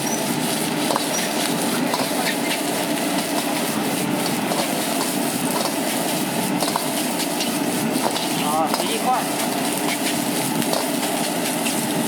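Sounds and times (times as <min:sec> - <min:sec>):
spatula scraping in wok: 0:00.0 - 0:11.9
gas burner roaring: 0:00.0 - 0:12.0.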